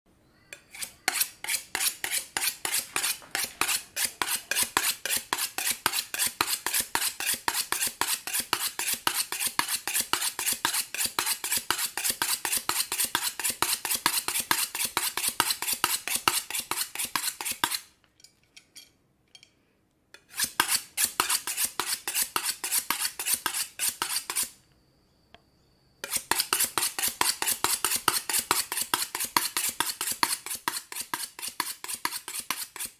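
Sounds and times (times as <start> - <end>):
knife sharpening scraping: 0.5 - 19.5, 20.1 - 24.6, 26.0 - 32.9.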